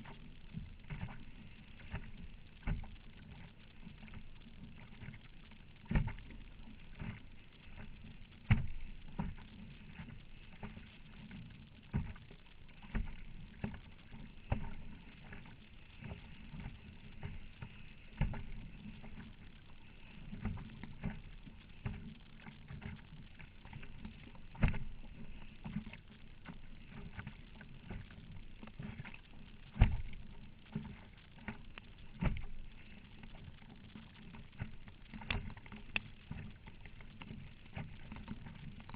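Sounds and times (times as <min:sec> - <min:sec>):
water splashing against kayak: 0:00.0 - 0:38.9.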